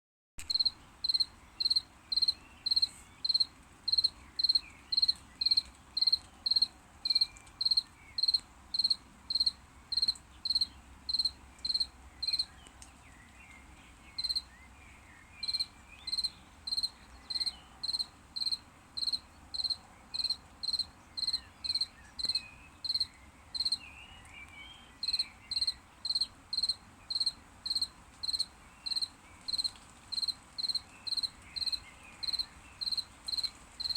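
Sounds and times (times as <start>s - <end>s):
cricket chirping: 0.5s - 12.5s, 14.2s - 14.5s, 15.4s - 23.8s, 25.0s - 33.9s.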